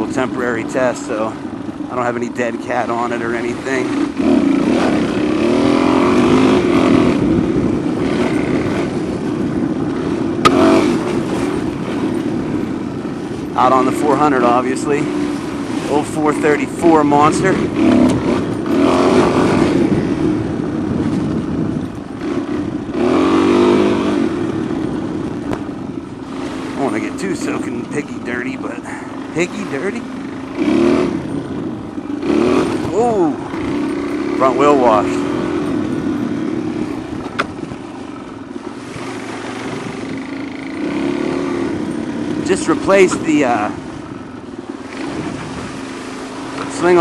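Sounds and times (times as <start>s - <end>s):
motorbike engine revving: 0.0s - 47.0s
wind noise on microphone: 0.0s - 47.0s.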